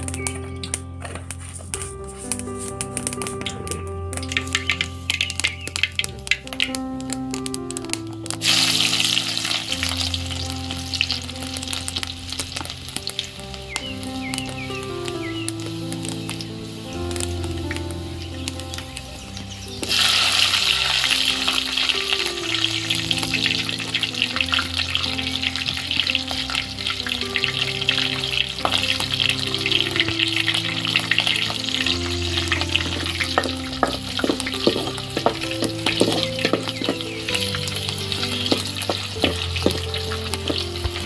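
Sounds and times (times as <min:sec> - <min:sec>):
garlic and chillies sizzling in oil: 0:00.0 - 0:41.0.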